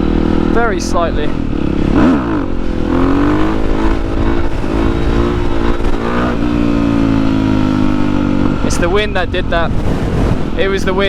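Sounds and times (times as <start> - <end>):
motorcycle engine running: 0.0 - 11.0
wind rumble on microphone: 0.0 - 11.0.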